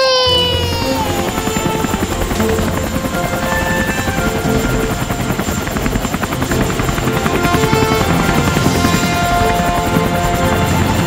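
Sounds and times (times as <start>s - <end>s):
light background music: 0.0s - 11.0s
toy helicopter rotor chopping: 0.0s - 11.0s.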